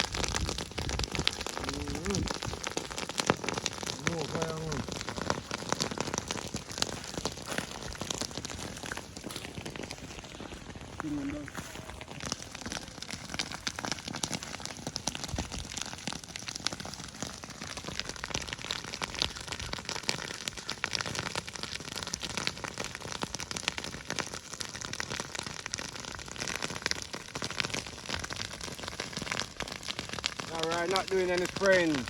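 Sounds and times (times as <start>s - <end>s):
grass fire crackling: 0.0s - 32.0s.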